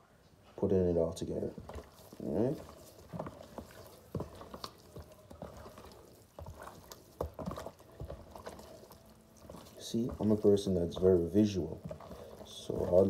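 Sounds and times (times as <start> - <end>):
hands squishing raw chicken: 1.1 - 13.0.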